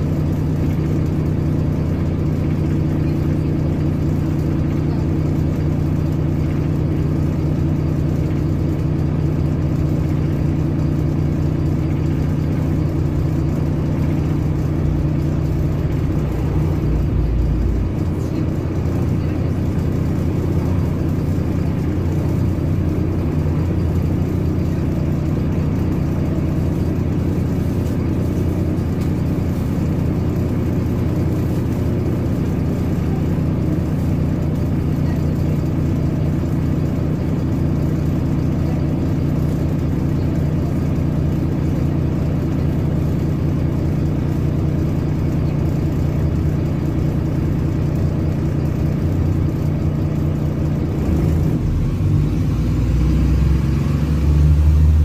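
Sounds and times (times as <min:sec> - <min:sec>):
bus diesel engine humming: 0:00.0 - 0:55.0.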